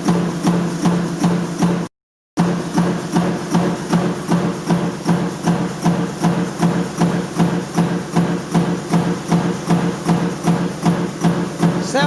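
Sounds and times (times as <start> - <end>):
low machine hum: 0.0 - 12.0
stamping press strokes: 0.0 - 12.0.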